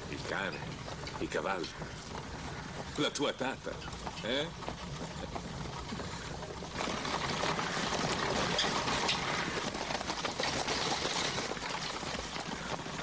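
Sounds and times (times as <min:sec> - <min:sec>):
hoofbeats on dirt track: 0:00.0 - 0:13.0
horse-drawn carriage rattling: 0:00.0 - 0:13.0.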